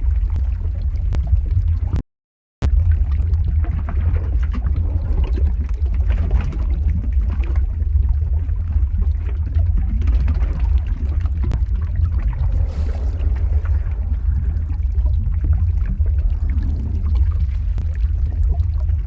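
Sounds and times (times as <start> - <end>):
deep rumble: 0.0 - 2.0, 2.6 - 19.0
dense irregular crackling: 2.8 - 19.0.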